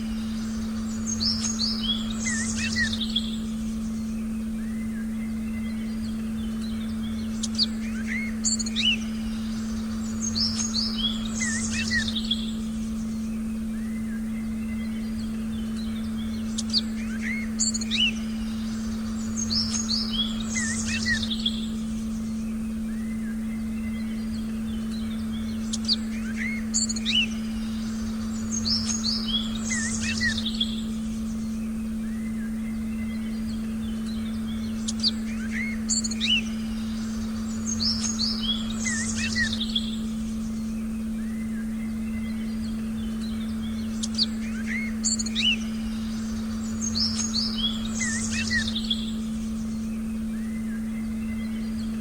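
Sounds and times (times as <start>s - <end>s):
birds chirping and whistling: 0.0s - 52.0s
low synthesized drone: 0.0s - 52.0s.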